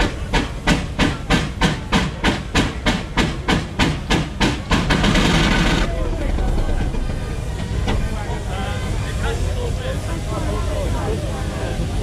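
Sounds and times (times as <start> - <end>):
rush of steam: 0.0 - 12.0
steam engine exhaust beats: 0.0 - 12.0.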